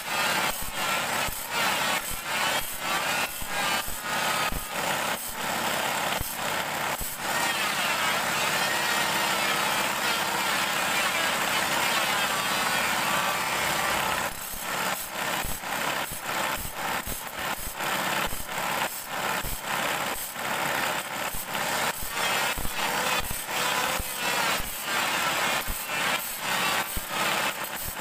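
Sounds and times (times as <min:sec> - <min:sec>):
blade teeth grinding on disc: 0:00.0 - 0:28.0
motor running: 0:00.0 - 0:28.0.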